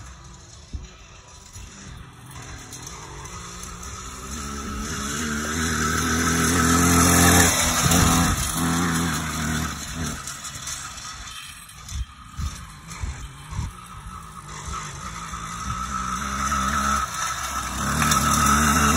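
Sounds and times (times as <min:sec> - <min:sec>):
two-stroke bike engine passing: 0:00.0 - 0:18.9.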